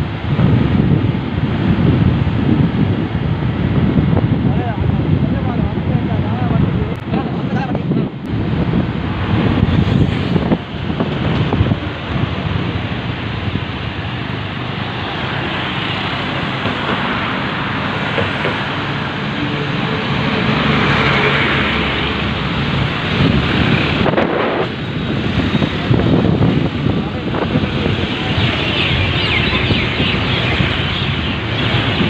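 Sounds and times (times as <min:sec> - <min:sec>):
motorbike and road traffic: 0:00.0 - 0:32.0
wind on microphone: 0:00.0 - 0:32.0.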